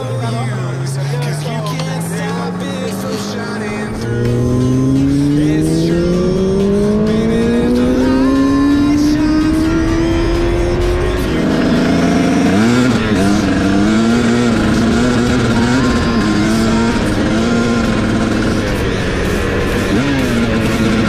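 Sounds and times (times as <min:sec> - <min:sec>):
dirt bike engine revving: 0:00.0 - 0:21.0
motorcycle engine accelerating: 0:00.0 - 0:21.0.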